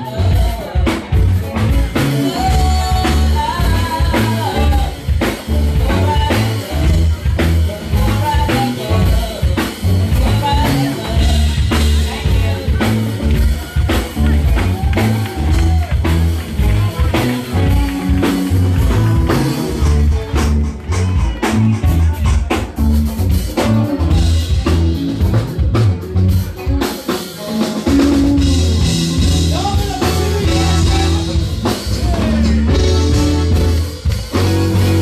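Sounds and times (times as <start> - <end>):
bass guitar line: 0.0 - 35.0
drums: 0.0 - 35.0
person singing: 0.0 - 35.0.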